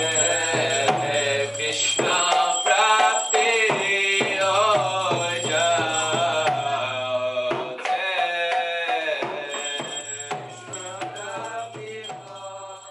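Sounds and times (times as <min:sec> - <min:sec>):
devotional chanting: 0:00.0 - 0:12.9
drums and percussion: 0:00.0 - 0:12.9.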